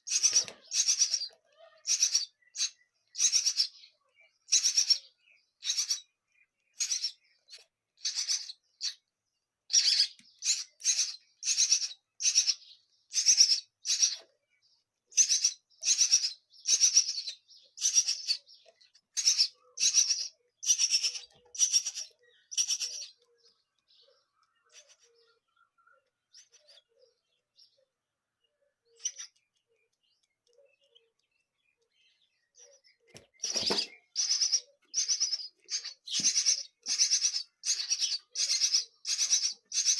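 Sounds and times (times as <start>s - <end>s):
nestling birds chirping: 0.0s - 39.9s.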